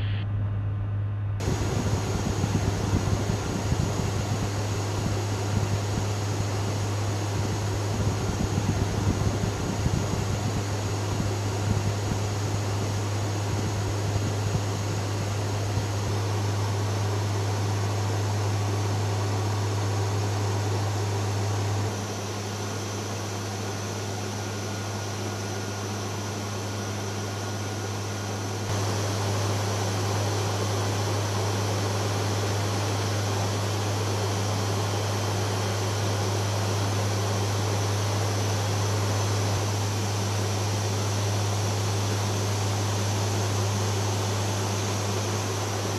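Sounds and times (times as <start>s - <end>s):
turboprop aircraft engines droning: 0.0s - 45.9s.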